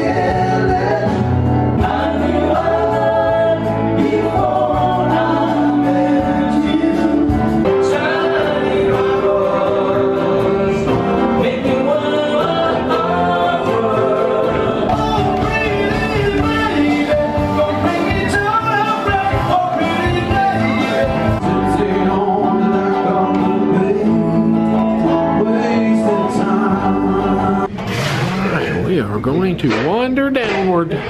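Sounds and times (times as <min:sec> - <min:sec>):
people singing long notes: 0:00.0 - 0:27.8
live band playing: 0:00.0 - 0:31.0.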